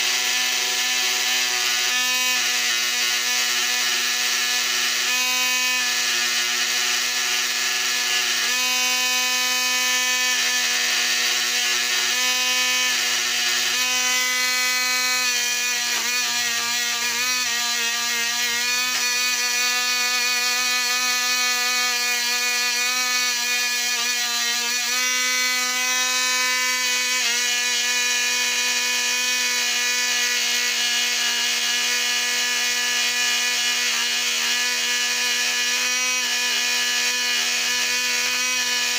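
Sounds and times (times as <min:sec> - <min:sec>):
electric motor humming and buzzing: 0:00.0 - 0:38.9.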